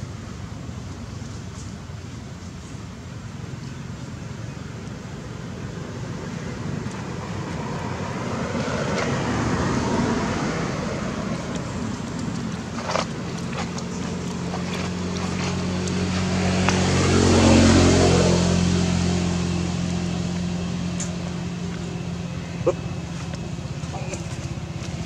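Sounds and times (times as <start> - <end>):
rushing outdoor noise: 0.0 - 25.0
vehicle engine approaching: 3.5 - 25.0.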